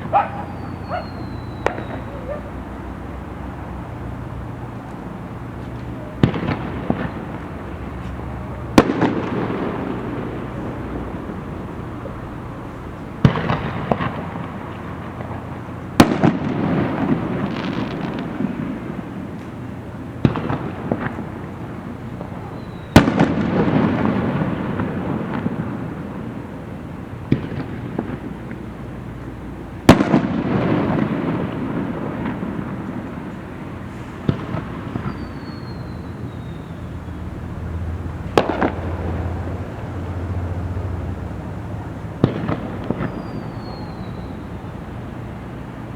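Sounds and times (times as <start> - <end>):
fireworks bangs: 0.0 - 45.9
rumble and crackle of fireworks: 0.0 - 45.9.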